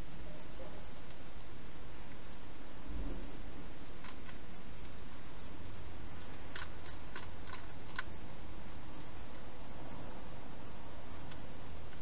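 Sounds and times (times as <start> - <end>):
microphone hiss: 0.0 - 12.0.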